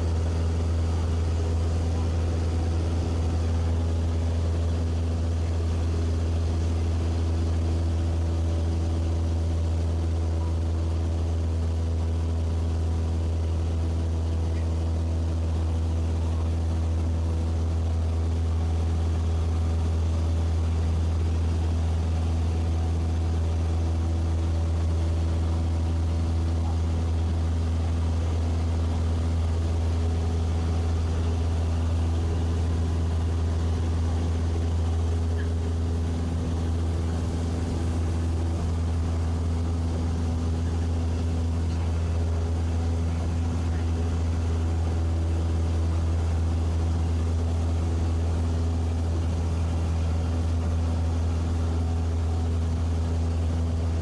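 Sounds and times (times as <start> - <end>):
propeller airplane engine drone: 0.0 - 54.0.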